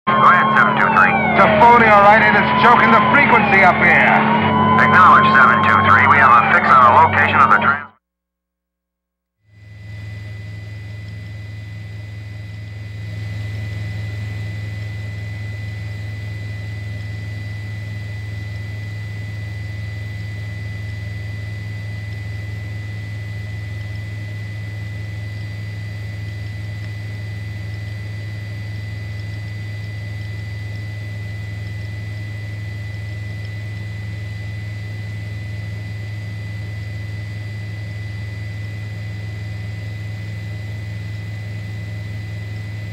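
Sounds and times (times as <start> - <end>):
helicopter drone: 0.1 - 7.9, 9.5 - 42.9.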